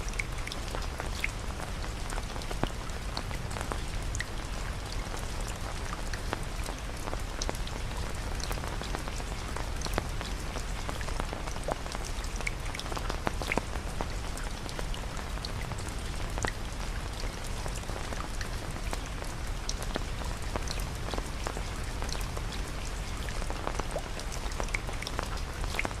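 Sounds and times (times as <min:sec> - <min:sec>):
raindrops ticking: 0:00.0 - 0:26.0
steady rain falling: 0:00.0 - 0:26.0.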